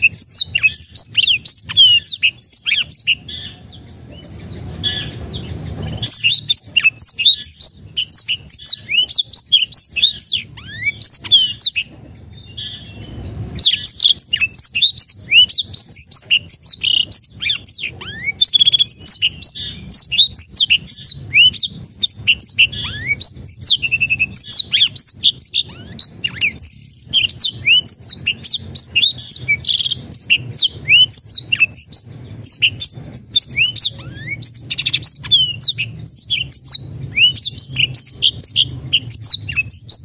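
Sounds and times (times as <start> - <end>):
canary singing: 0.0 - 40.0.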